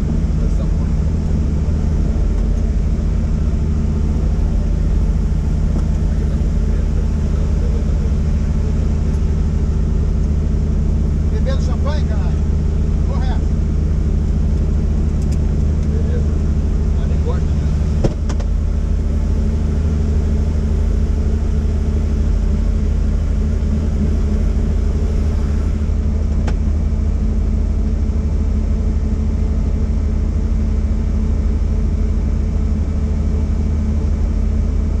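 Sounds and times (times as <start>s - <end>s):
helicopter engine and rotor: 0.0s - 35.0s.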